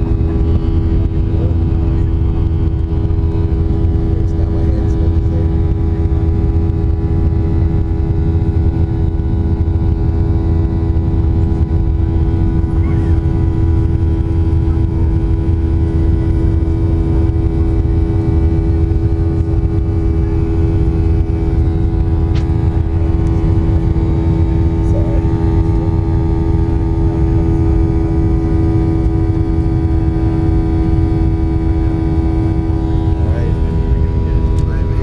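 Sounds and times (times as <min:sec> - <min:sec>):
jet engines droning in cabin: 0:00.0 - 0:35.0.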